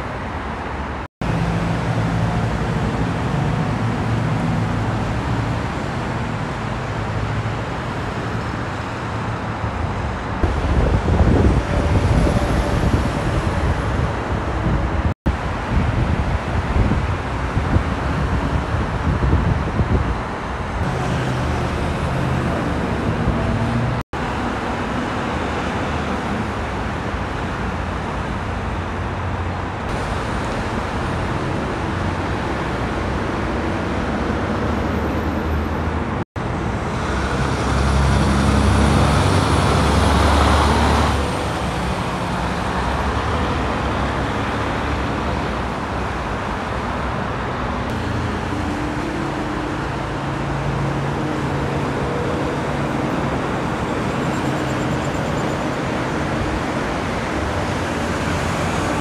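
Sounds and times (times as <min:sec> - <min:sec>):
freeway traffic noise: 0:00.0 - 0:59.0.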